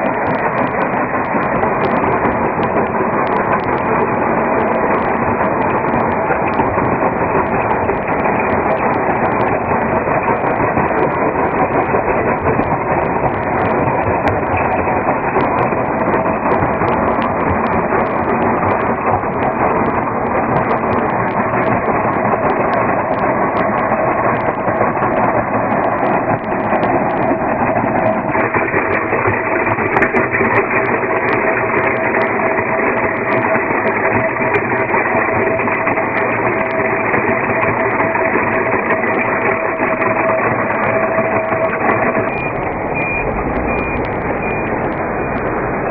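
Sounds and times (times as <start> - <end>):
crushing machinery drone: 0.0 - 45.9.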